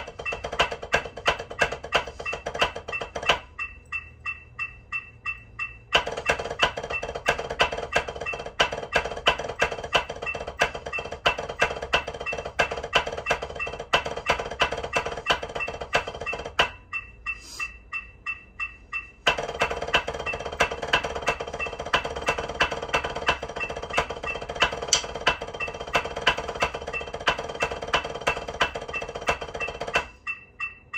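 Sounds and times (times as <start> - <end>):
drumsticks on a practice pad: 0.0 - 30.9
metronome clicking: 0.0 - 30.9.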